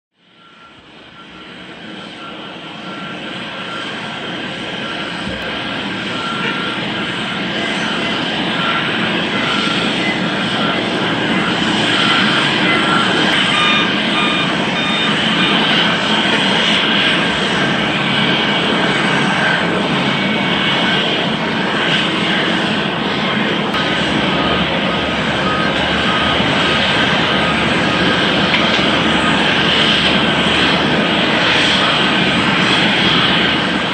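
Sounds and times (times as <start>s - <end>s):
jet airliner engines: 0.2s - 33.9s
high whining tones: 1.4s - 33.9s.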